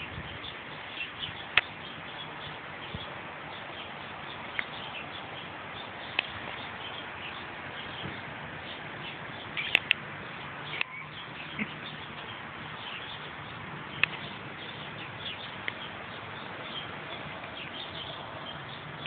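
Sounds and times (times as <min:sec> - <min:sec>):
birds chirping: 0:00.0 - 0:19.0
outdoor background hiss: 0:00.0 - 0:19.0.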